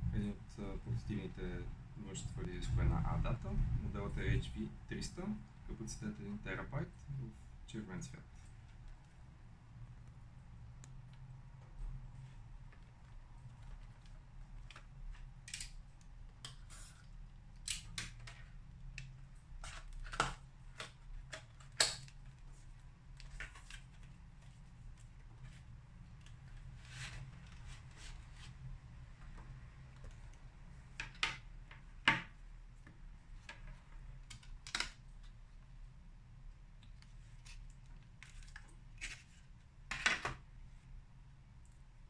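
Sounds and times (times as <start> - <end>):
faint low hum: 0.0 - 42.0.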